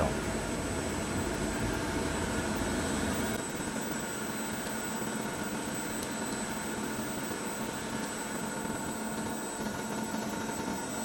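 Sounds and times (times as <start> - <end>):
high machine whine: 0.0 - 11.0.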